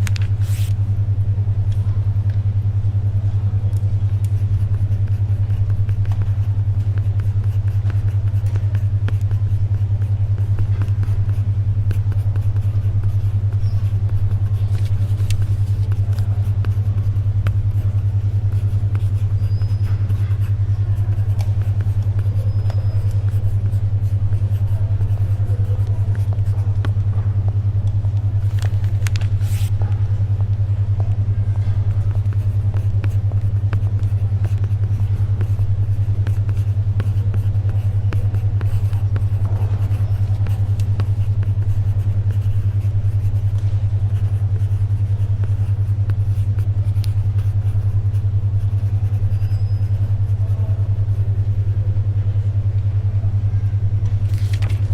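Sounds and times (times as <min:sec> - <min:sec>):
faint library ambience: 0:00.0 - 0:54.9
low pulsing hum tone: 0:00.0 - 0:54.9.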